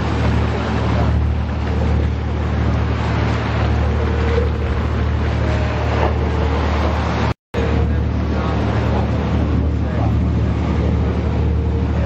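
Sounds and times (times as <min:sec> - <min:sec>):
boat engine drone: 0:00.0 - 0:12.0
wind and water rushing: 0:00.0 - 0:12.0.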